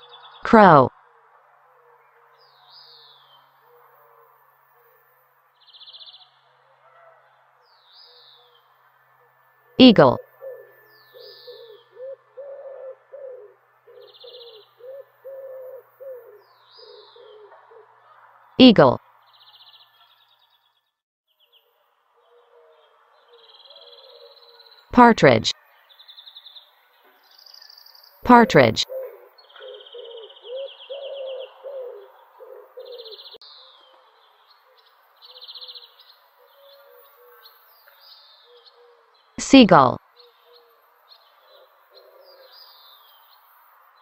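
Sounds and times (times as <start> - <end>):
low hooting bird calls: 0.0 - 18.3, 21.5 - 24.9, 28.8 - 39.4, 40.1 - 43.4.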